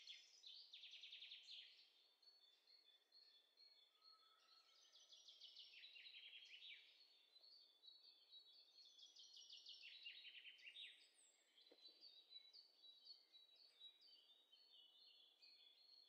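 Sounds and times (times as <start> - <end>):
songbird trills: 0.0 - 16.0.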